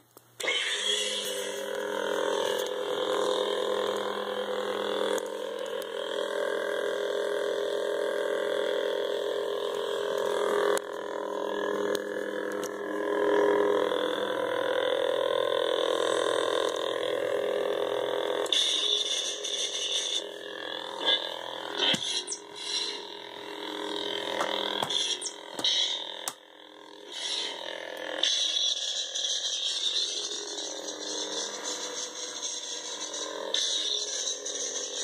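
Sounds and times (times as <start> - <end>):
electronic lightsaber hum: 0.0 - 35.0.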